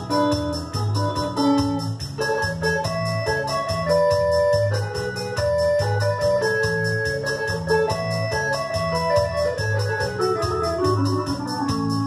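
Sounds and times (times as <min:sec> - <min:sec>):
electronic keyboard organ voice: 0:00.0 - 0:12.0
steady repeating beat: 0:00.0 - 0:12.0.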